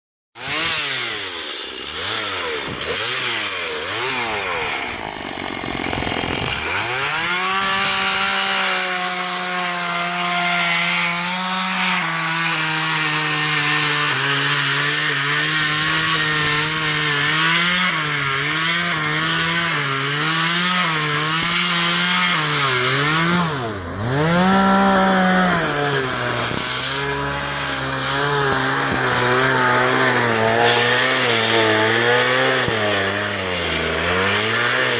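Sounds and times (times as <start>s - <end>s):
chainsaw cutting wood: 0.4s - 34.9s.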